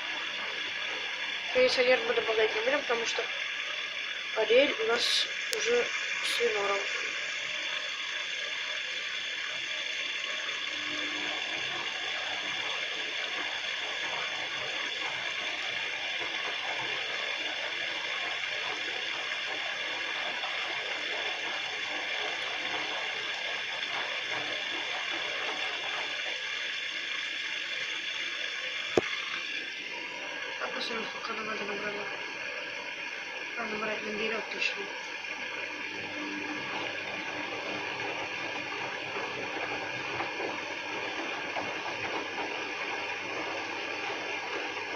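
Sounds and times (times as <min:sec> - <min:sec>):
washing machine drawing in water: 0:00.0 - 0:44.9
washing machine mechanical churn: 0:00.0 - 0:44.9.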